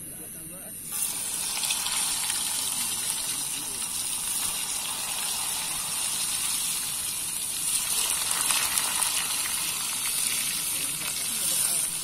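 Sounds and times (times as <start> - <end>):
hot oil hissing and crackling: 0.1 - 12.0.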